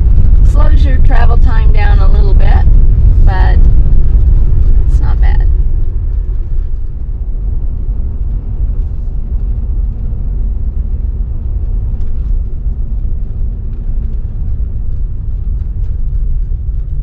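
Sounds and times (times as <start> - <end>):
car engine rumble: 0.0 - 17.0
tyre noise on road: 0.0 - 17.0.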